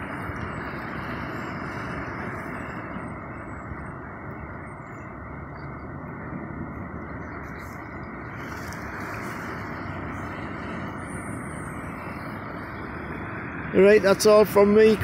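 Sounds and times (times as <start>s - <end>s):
choppy sea water: 0.0s - 15.0s
wind on microphone: 0.0s - 15.0s.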